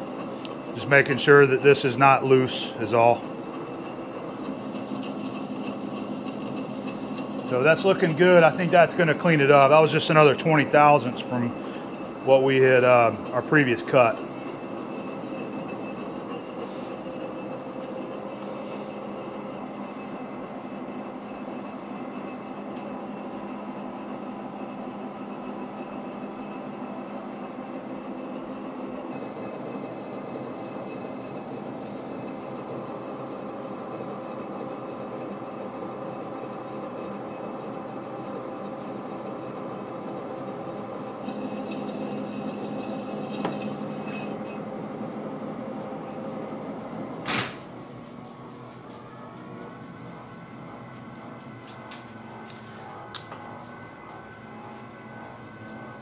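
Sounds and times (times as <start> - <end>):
lathe humming and whining: 0.0 - 56.0.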